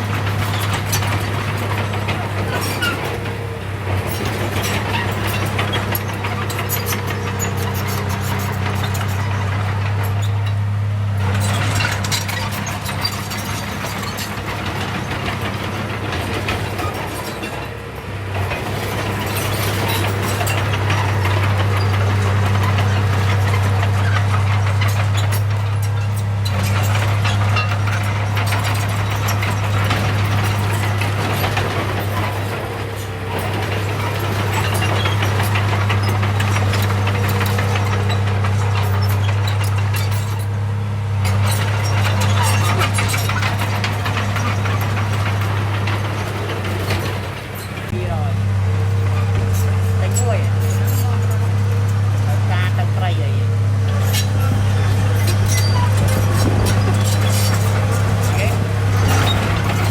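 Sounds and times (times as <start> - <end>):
heavy diesel engine running: 0.0 - 59.9
rattling and clattering: 0.0 - 59.9.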